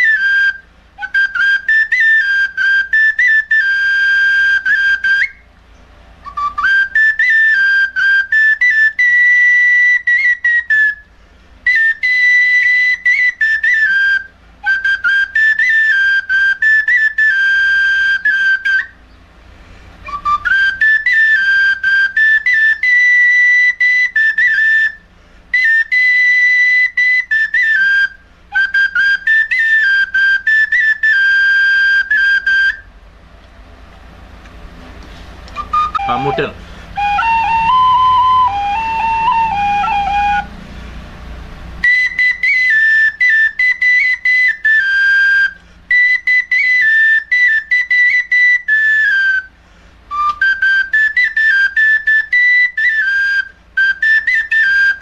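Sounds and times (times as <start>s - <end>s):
flute playing high melody: 0.0s - 5.5s, 6.2s - 19.0s, 20.0s - 32.9s, 35.5s - 40.8s, 41.8s - 55.0s.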